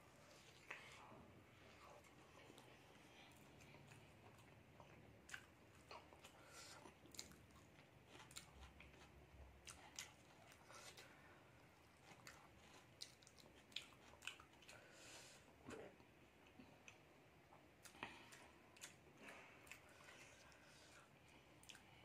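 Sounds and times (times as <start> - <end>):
faint chewing: 0.1 - 22.0.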